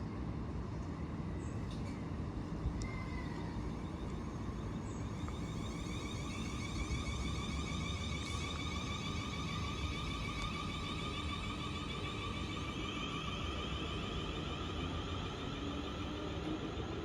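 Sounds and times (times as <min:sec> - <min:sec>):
train low rumble: 0:00.0 - 0:17.0
high-pitched whine: 0:02.8 - 0:17.0.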